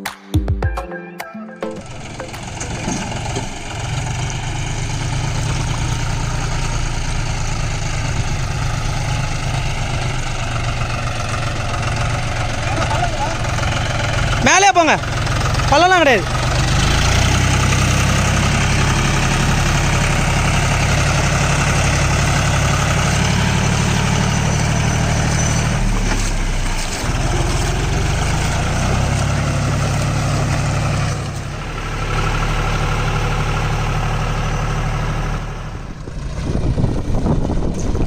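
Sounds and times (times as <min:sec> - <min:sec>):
tractor diesel engine running: 0:01.8 - 0:38.0.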